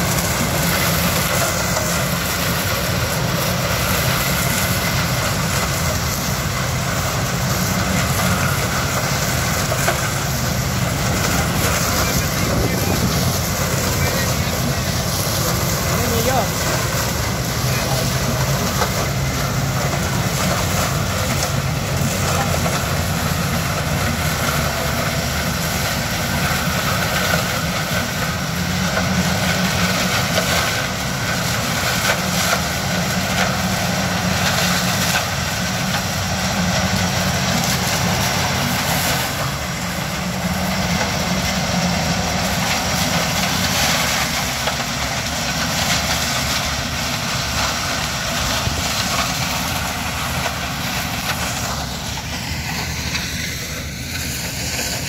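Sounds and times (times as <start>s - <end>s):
harvester engine drone: 0.0s - 55.0s
truck engine: 0.0s - 55.0s.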